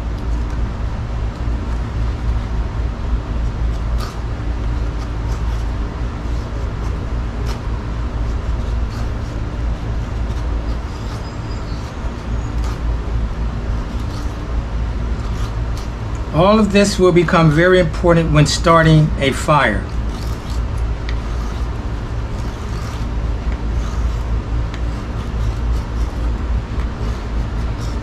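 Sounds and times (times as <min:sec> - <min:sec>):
knife shaving a stick: 0:00.0 - 0:19.0, 0:19.6 - 0:28.0
steady low rumble with hum: 0:00.0 - 0:28.0.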